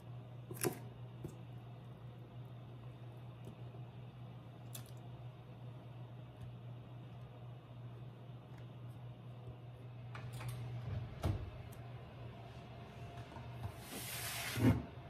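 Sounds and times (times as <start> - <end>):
steady low hum: 0.0 - 14.1.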